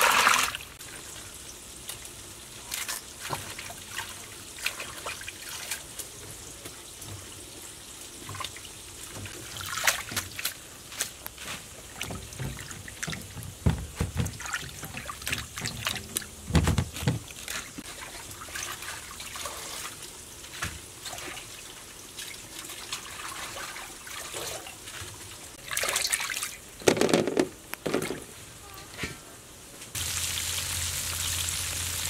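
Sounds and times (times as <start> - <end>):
water splashing and dripping: 0.0 - 26.8, 30.0 - 32.0.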